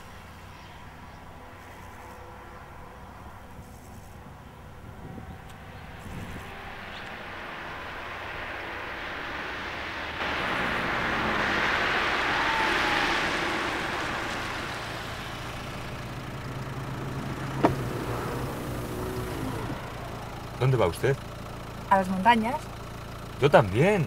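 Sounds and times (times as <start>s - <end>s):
car engine idling: 0.0s - 24.0s
car tyre and engine noise: 0.0s - 24.0s.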